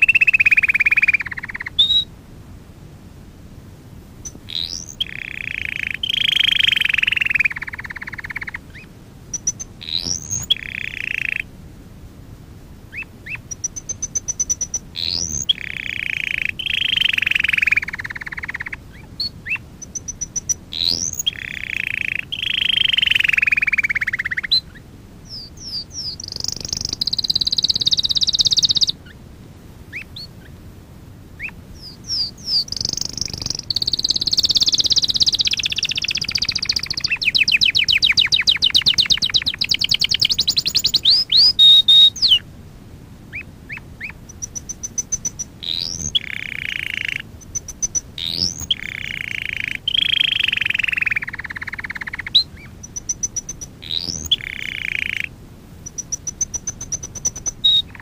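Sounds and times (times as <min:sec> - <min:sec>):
canary singing trills: 0:00.0 - 0:02.1, 0:04.2 - 0:11.5, 0:12.9 - 0:29.2, 0:29.9 - 0:30.6, 0:31.4 - 0:42.5, 0:43.3 - 0:58.0.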